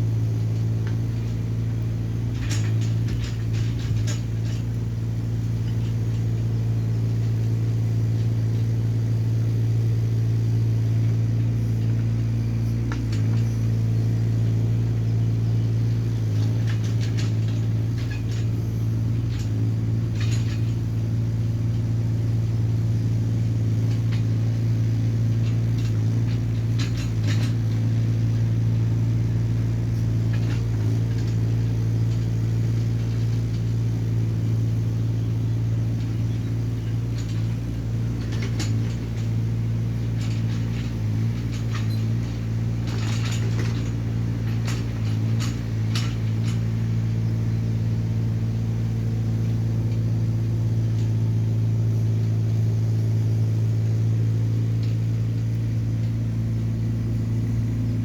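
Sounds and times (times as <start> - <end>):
excavator diesel engine humming: 0.0 - 58.0.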